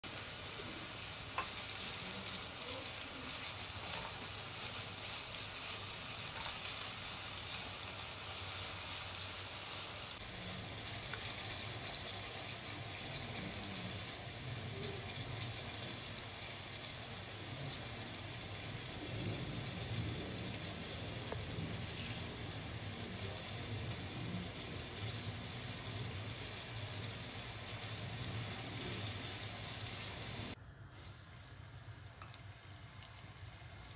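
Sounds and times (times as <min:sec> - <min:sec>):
food frying in oil: 0:00.0 - 0:33.9.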